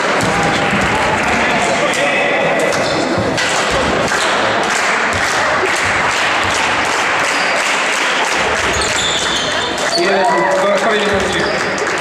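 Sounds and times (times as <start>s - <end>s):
echoing hall noise: 0.0s - 12.0s.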